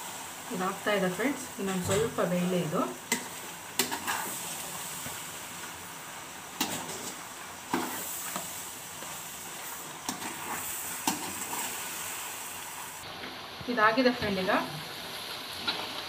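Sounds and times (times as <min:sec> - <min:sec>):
egg sizzling in a pan: 0:00.0 - 0:16.0.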